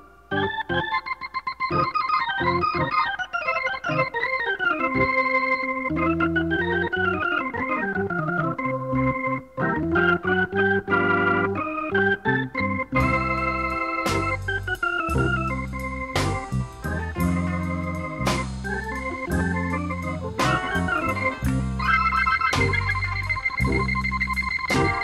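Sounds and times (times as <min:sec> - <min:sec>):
blues organ melody: 0:00.0 - 0:25.0.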